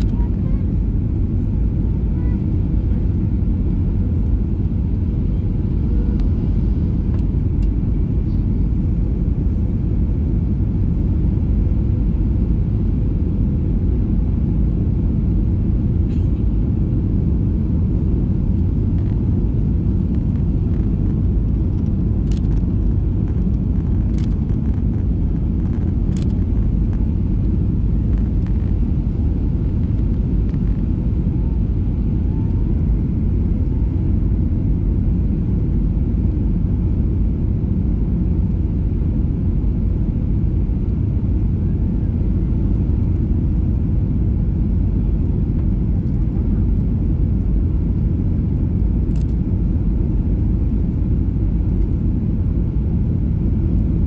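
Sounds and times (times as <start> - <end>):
aircraft engine and airflow rumble: 0.0 - 54.0
faint steady hum: 0.0 - 54.0.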